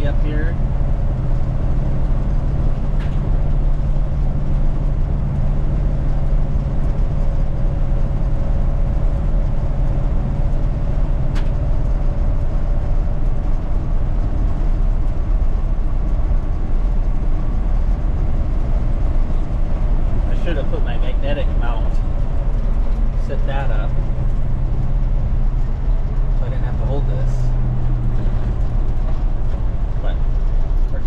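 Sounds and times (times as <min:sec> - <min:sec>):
engine and road rumble: 0:00.0 - 0:31.0.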